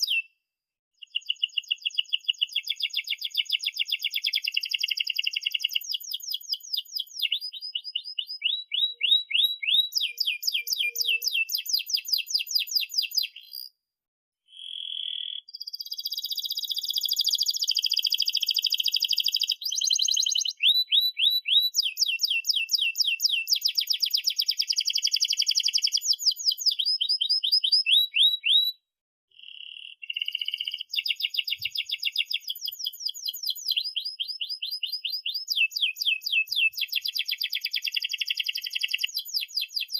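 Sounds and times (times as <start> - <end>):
canary singing trills: 0.0 - 0.3, 1.0 - 13.7, 14.5 - 39.9.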